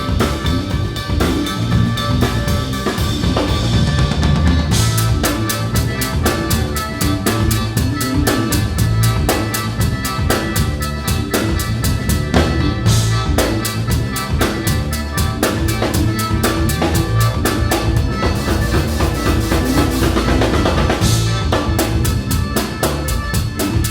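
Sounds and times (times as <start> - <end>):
bass line: 0.0 - 23.9
drum kit beat: 0.0 - 23.9
live band playing: 0.0 - 23.9.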